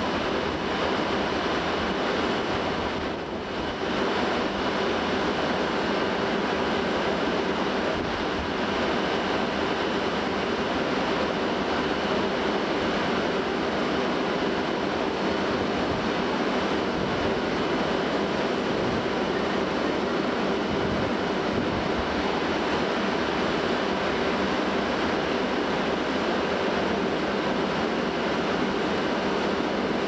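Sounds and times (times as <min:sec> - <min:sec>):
diesel railcar engine hum: 0:00.0 - 0:30.0.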